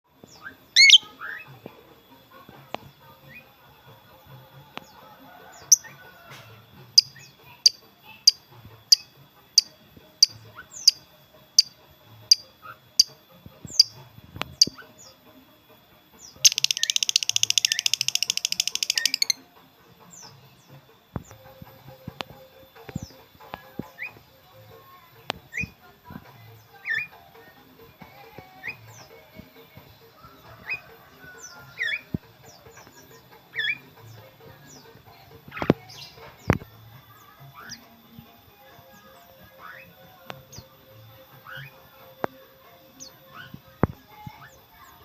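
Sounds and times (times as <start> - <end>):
songbird chirping and trilling: 0.1 - 45.0.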